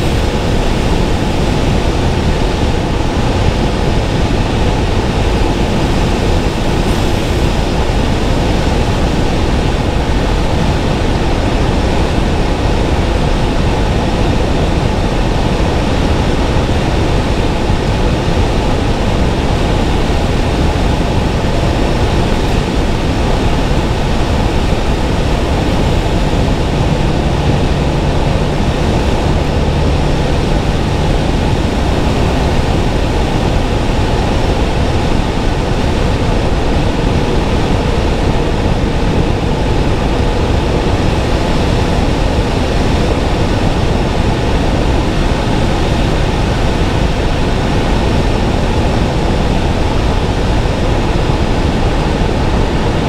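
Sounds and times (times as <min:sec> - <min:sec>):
car road and wind noise: 0:00.0 - 0:53.0
low hum: 0:00.0 - 0:53.0.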